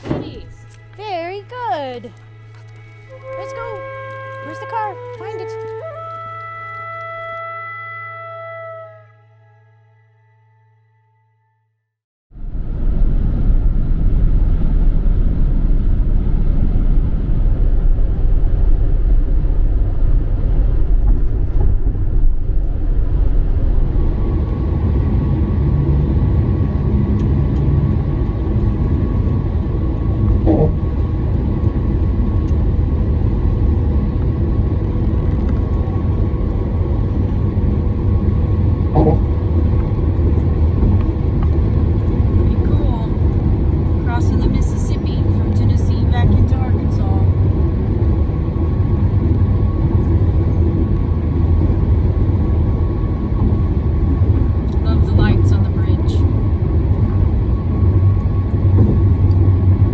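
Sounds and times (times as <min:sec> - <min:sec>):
car road and engine rumble: 0:00.0 - 0:07.2, 0:12.4 - 0:59.9.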